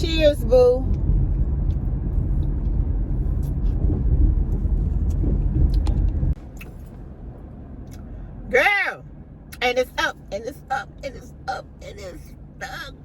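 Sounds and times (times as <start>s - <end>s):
car low rumble: 0.0s - 13.0s.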